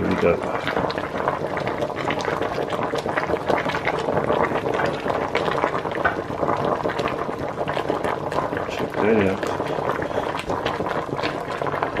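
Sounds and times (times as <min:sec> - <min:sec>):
pot boiling and bubbling: 0:00.0 - 0:12.0.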